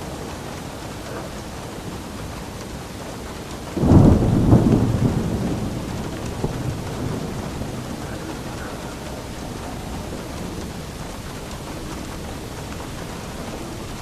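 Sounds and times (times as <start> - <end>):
steady rain falling: 0.0 - 14.0
thunderclap rolling: 1.8 - 14.0.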